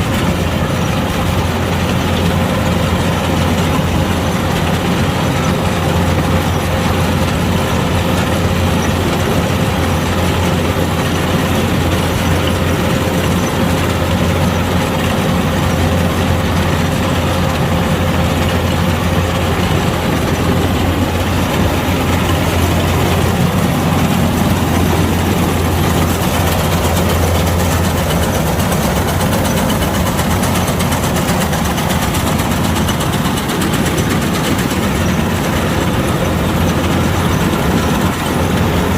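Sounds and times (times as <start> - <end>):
combine harvester engine droning: 0.0 - 38.9.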